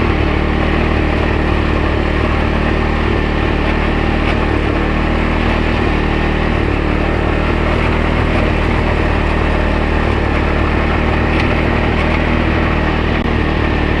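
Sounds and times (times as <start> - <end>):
garden tractor engine running: 0.0 - 14.0.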